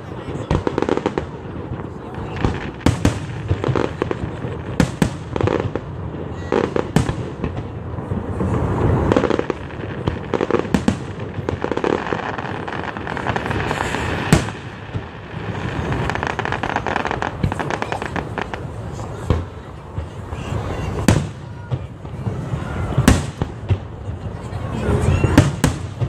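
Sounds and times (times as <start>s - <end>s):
continuous rumble: 0.0s - 26.0s
fireworks bangs and booms: 0.0s - 26.0s.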